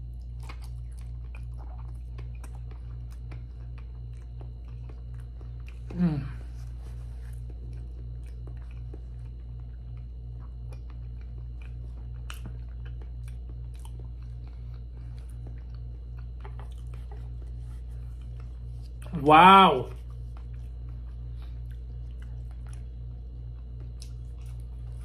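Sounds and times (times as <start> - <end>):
chewing fish: 0.0 - 25.0
steady low hum: 0.0 - 25.0.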